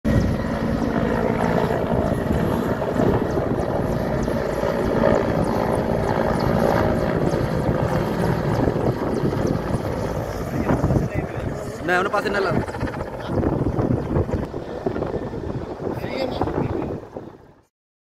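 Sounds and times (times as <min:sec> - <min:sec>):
helicopter flying past: 0:00.1 - 0:17.7.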